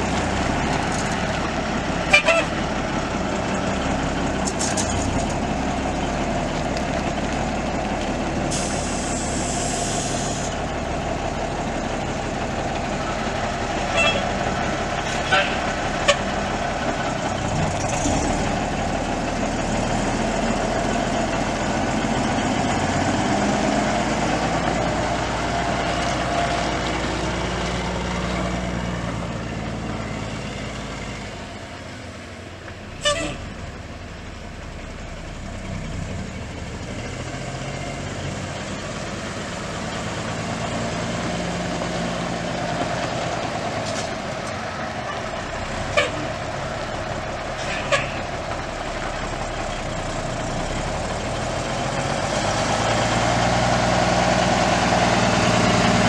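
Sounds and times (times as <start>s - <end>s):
diesel truck engine revving: 0.0s - 32.0s, 32.9s - 56.0s.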